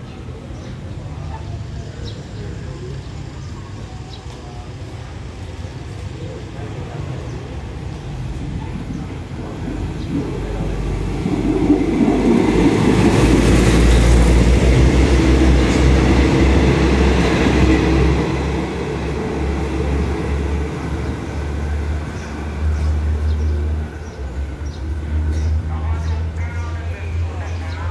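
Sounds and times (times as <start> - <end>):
locomotive engine: 1.9 - 27.6
train wheels rumbling: 2.4 - 27.9.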